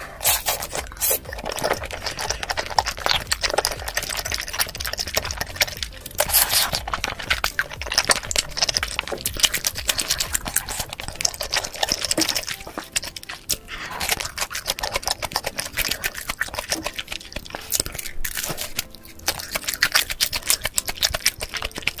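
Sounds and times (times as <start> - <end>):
crunching and chewing crispy food: 0.0 - 22.0
wet mouth and lip smacks: 0.2 - 22.0.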